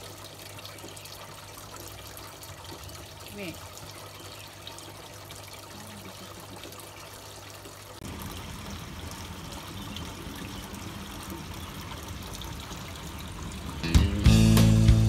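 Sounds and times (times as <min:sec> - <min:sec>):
water trickling: 0:00.0 - 0:14.3.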